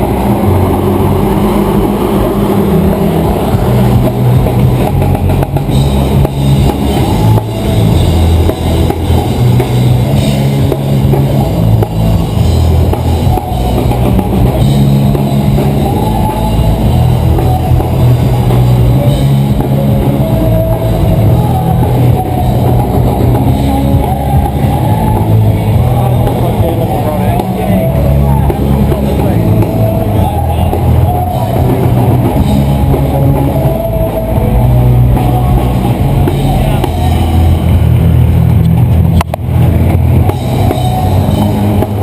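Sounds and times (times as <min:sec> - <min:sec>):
rock music: 0:00.0 - 0:42.0.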